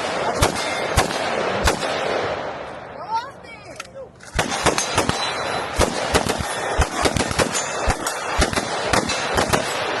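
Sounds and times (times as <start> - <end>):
rapid gunfire: 0.0 - 2.4, 4.4 - 10.0
echo of gunshots: 0.0 - 3.0, 4.3 - 10.0.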